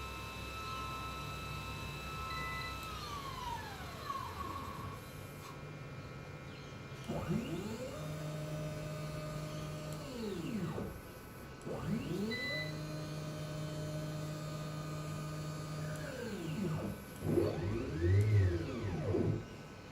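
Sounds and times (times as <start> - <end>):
motors whining: 0.0 - 5.5, 7.0 - 11.0, 11.6 - 19.9.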